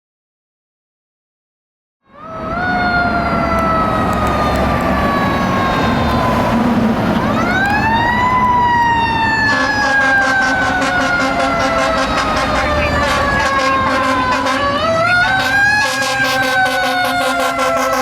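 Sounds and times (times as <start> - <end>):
siren wailing: 2.1 - 18.0.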